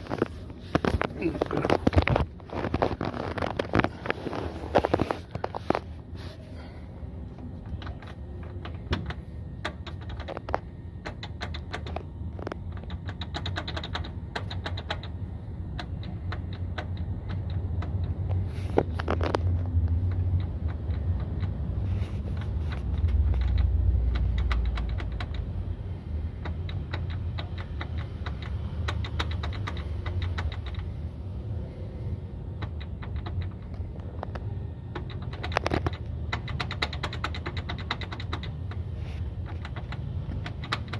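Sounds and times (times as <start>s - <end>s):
suspension clicks and rattles: 0.0s - 6.2s, 6.9s - 40.9s
car road rumble: 0.0s - 40.9s.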